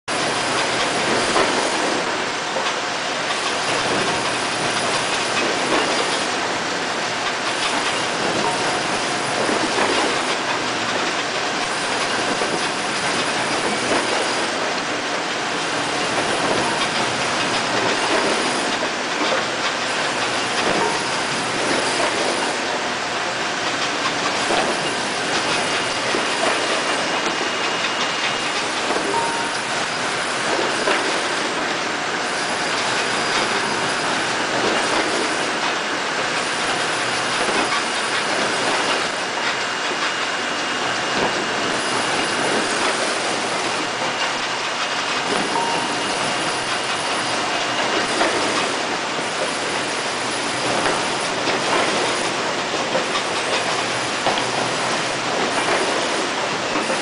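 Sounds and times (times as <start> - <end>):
industrial conveyor din: 0.1 - 57.0.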